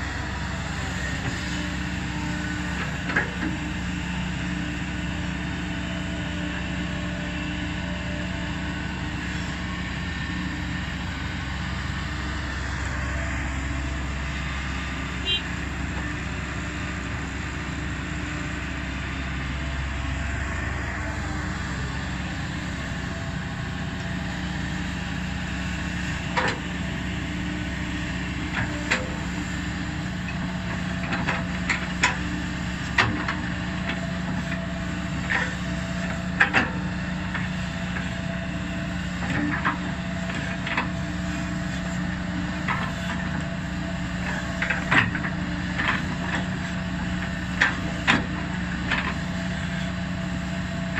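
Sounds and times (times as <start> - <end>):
excavator diesel engine: 0.0 - 50.9.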